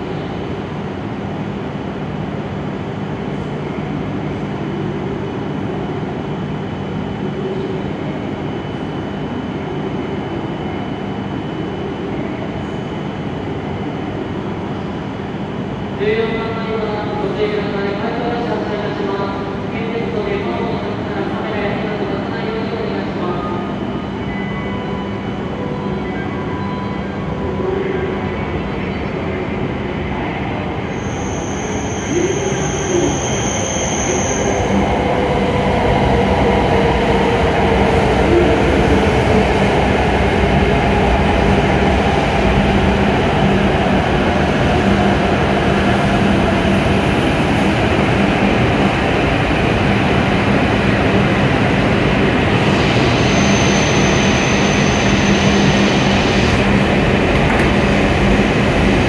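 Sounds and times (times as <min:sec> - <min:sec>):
train running and wheel noise: 0:00.0 - 0:59.0.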